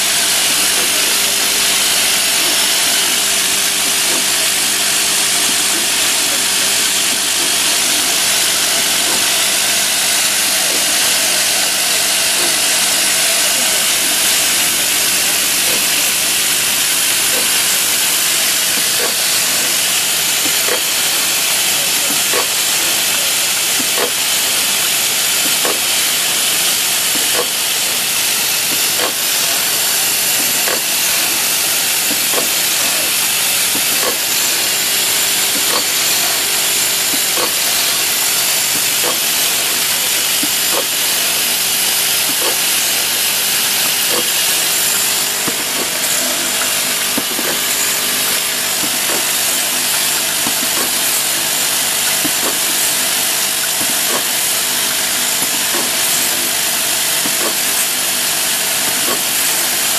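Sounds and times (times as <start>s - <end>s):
hissing factory machinery din: 0.0s - 59.9s
machine knocking: 0.0s - 59.9s.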